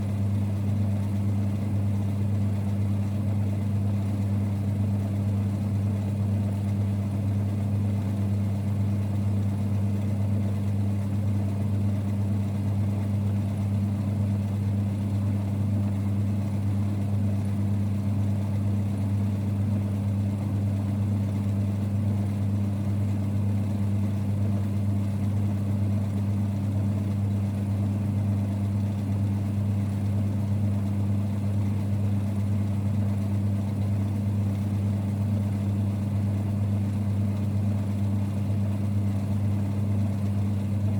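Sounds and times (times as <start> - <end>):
lathe running with low hum: 0.0 - 40.9.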